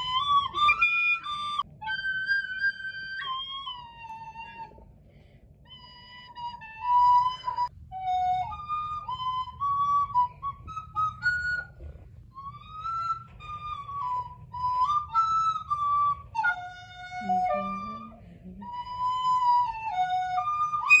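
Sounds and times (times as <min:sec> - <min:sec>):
recorder playing a melody: 0:00.0 - 0:04.8, 0:05.7 - 0:21.0.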